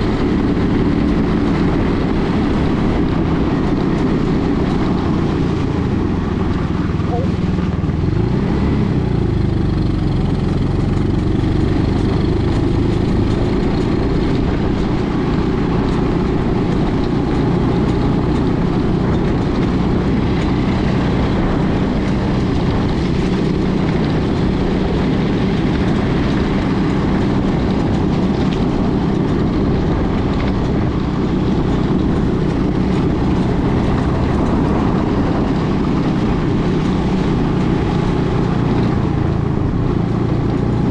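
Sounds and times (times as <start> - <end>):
quad buggy engine running: 0.0 - 40.9.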